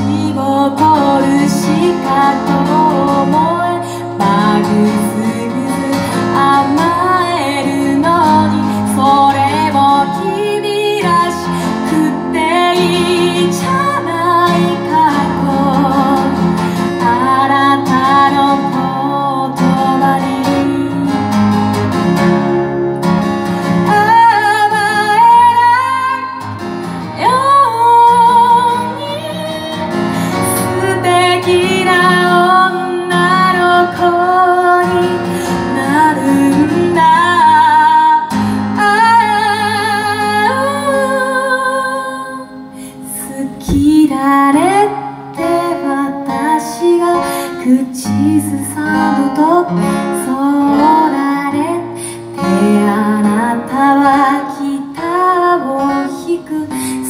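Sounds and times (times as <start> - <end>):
woman singing with vibrato: 0.0 - 21.5, 23.7 - 57.0
acoustic guitar strumming: 0.0 - 57.0.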